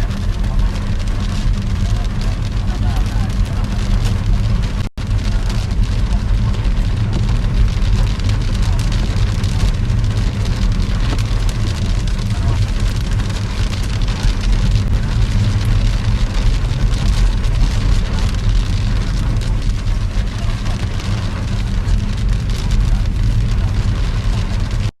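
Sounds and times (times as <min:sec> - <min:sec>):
heavy rain pattering: 0:00.0 - 0:24.9
low rumble: 0:00.0 - 0:24.9.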